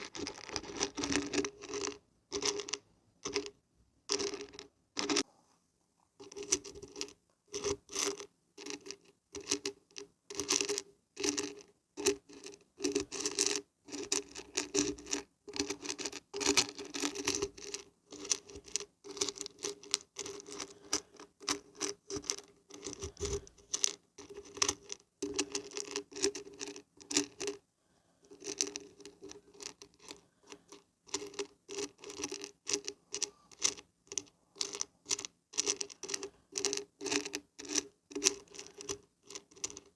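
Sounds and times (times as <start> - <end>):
dried beans rattling when shaken: 0.0 - 3.5, 4.1 - 5.2, 10.4 - 27.6, 28.3 - 39.9.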